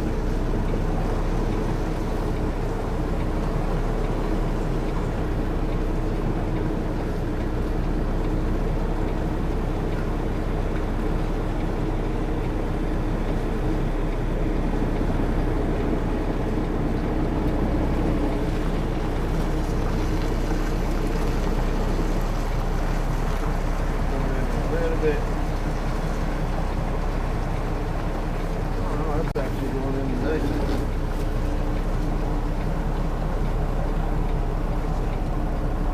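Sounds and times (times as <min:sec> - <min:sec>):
diesel truck engine droning: 0:00.0 - 0:35.9.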